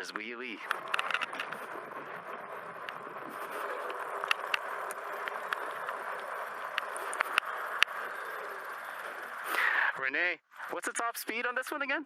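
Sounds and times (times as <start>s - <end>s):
tyres on pavement: 0.0s - 9.9s
sharp clicks and ticks: 0.0s - 10.0s.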